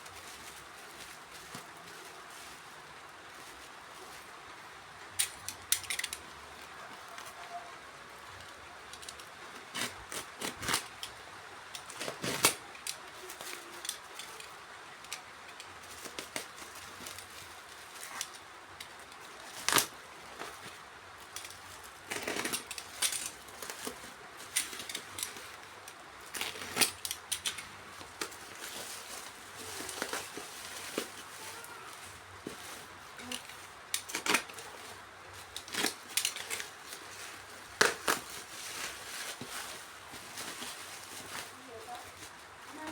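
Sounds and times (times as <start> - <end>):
packaging rustling and clicking: 0.0 - 4.3, 5.1 - 7.6, 8.3 - 42.9.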